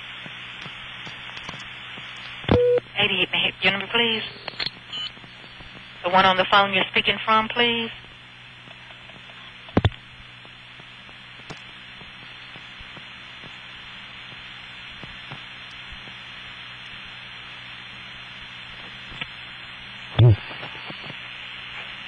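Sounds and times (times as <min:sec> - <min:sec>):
telephone line hiss: 0:00.0 - 0:07.9, 0:12.0 - 0:22.0
faint hum: 0:00.0 - 0:22.0.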